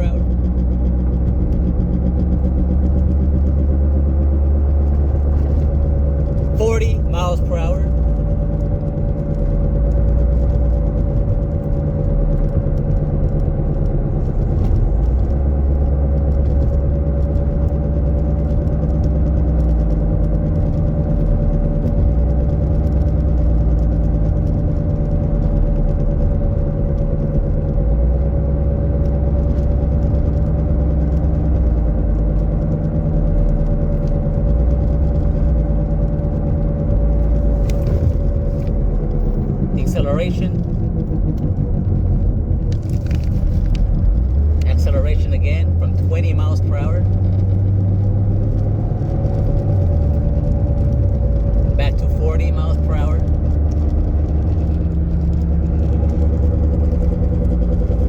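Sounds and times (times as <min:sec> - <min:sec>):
road rumble: 0:00.0 - 0:58.0.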